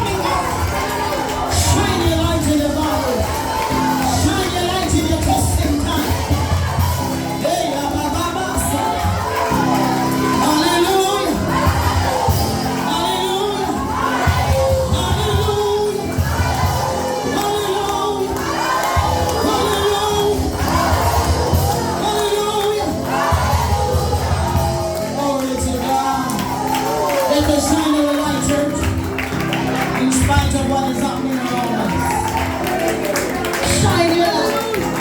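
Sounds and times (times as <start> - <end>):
band playing: 0.0 - 35.0
bass line: 0.0 - 35.0
people singing together: 0.0 - 35.0.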